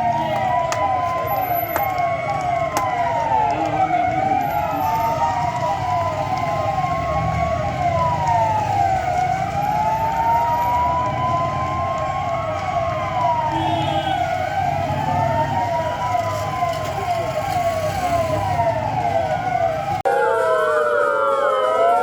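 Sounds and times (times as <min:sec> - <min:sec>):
fast up-sweeping police siren: 0:00.0 - 0:22.0
slow wailing police siren: 0:00.0 - 0:22.0.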